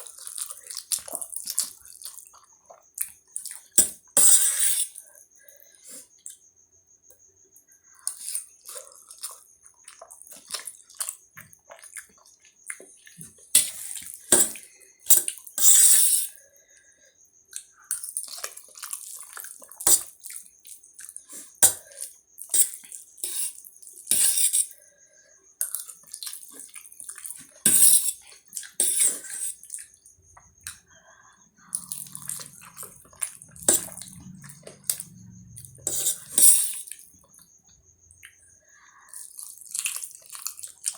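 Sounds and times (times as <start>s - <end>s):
chewing: 0.0s - 4.0s, 7.6s - 15.5s, 17.5s - 23.8s, 25.6s - 40.9s.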